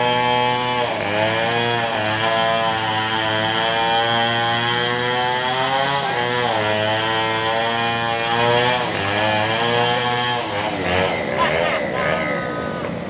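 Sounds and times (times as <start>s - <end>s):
chainsaw engine at high revs: 0.0s - 13.0s.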